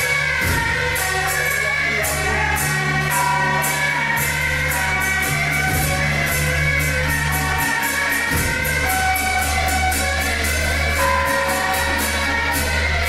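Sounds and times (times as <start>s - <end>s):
bright percussion beat: 0.0s - 13.0s
held melody notes: 0.0s - 13.0s.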